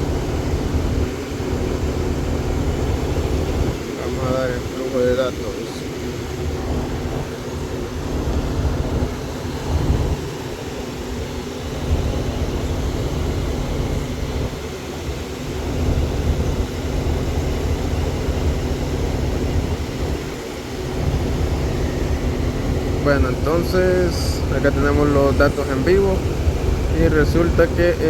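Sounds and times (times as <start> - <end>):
engine idling with uneven rumble: 0.0 - 28.0.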